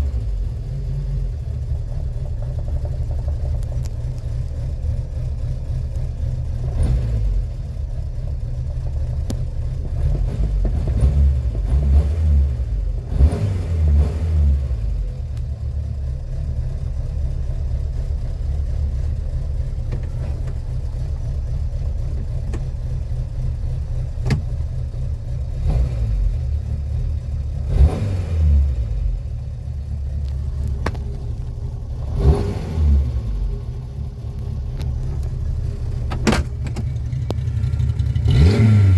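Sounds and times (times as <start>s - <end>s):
car engine revving: 0.0s - 15.4s, 16.0s - 38.9s.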